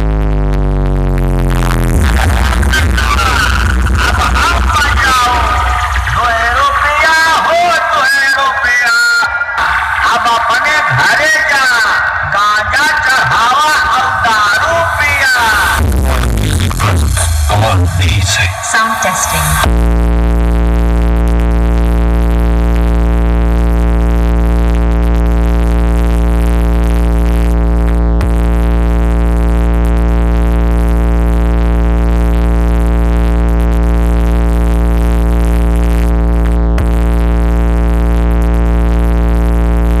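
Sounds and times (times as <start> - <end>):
held bass synthesizer tone: 0.0 - 40.0.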